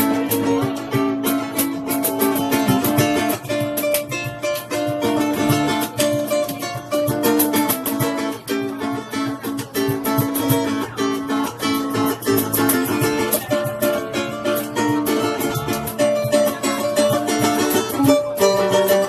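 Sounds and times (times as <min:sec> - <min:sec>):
plucked melody line: 0:00.0 - 0:19.0
ukuleles strumming: 0:00.0 - 0:19.0.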